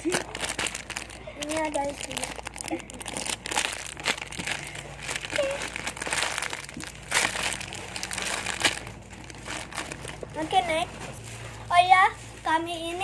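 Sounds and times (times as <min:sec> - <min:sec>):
plastic wrapping crinkling: 0:00.0 - 0:11.6.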